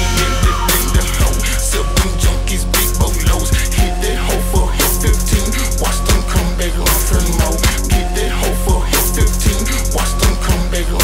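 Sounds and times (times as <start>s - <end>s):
heavy sustained bass: 0.0s - 11.0s
rapid hi-hat ticks: 0.1s - 11.0s.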